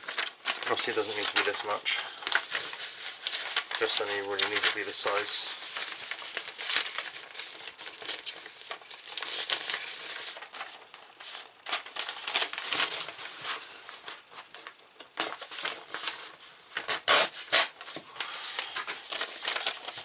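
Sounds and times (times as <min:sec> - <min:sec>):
paper crinkling and rustling: 0:00.0 - 0:20.0.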